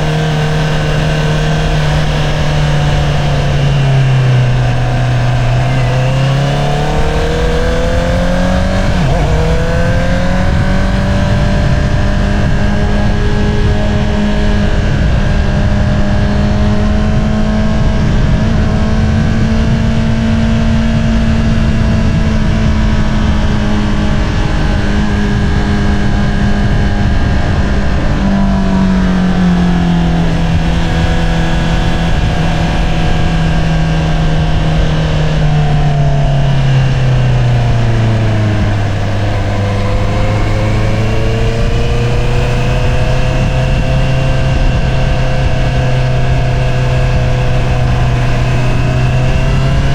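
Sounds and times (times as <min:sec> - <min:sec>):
motorcycle exhaust while riding: 0:00.0 - 0:49.9.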